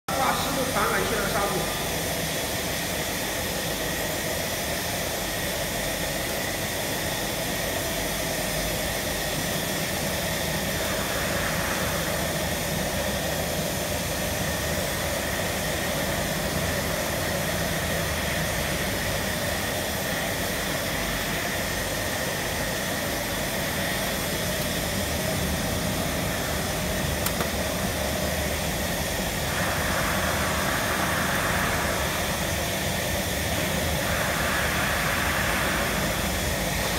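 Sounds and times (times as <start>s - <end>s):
machinery hum and air rush: 0.1s - 36.9s.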